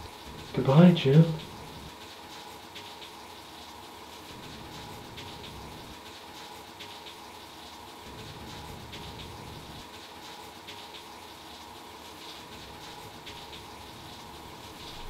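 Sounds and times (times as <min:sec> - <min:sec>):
water running into bathtub: 0:00.0 - 0:15.0.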